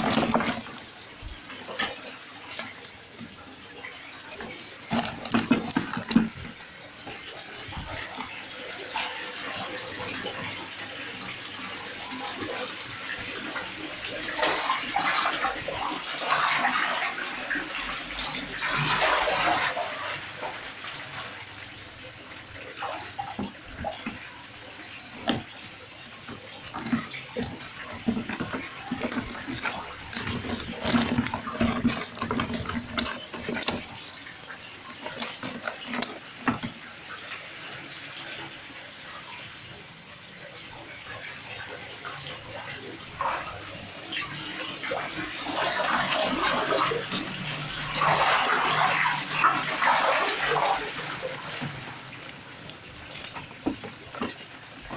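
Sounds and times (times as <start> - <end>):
fish flapping in a bucket: 0.0 - 39.4, 41.1 - 54.9
water splashing and sloshing: 0.0 - 54.9.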